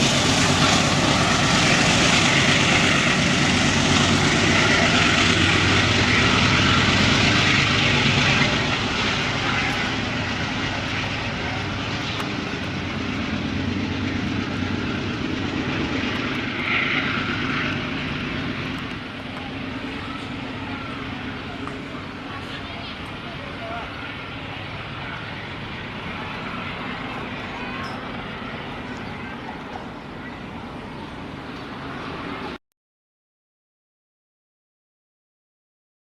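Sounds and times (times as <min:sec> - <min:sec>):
diesel locomotive engine running: 0:00.0 - 0:32.6.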